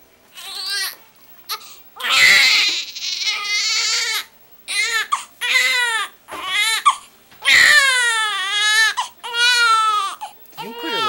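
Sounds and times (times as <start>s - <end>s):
baby crying: 0.4s - 11.0s.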